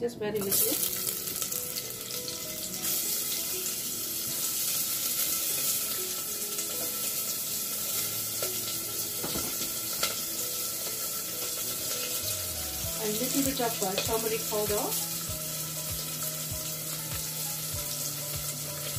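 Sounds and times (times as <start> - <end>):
onion sizzling in hot oil: 0.2 - 18.9.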